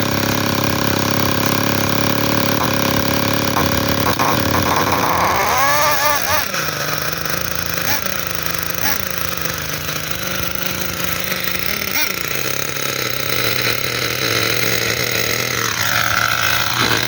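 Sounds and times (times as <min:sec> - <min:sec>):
small two-stroke engine running: 0:00.0 - 0:17.0.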